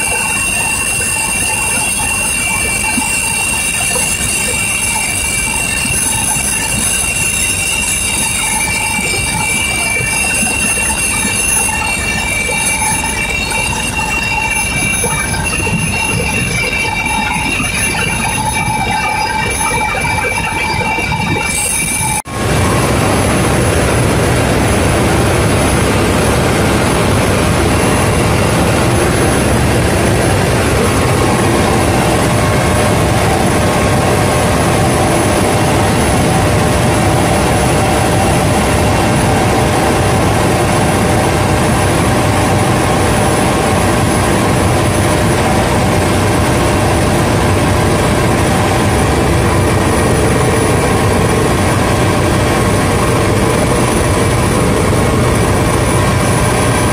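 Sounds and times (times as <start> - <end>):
helicopter engine and rotor noise: 0.0 - 56.9
steady whining tones: 0.0 - 56.9.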